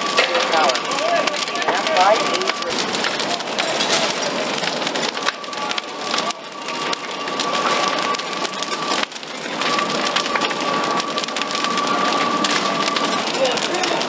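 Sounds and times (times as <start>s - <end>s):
fire roaring and crackling: 0.0s - 14.0s.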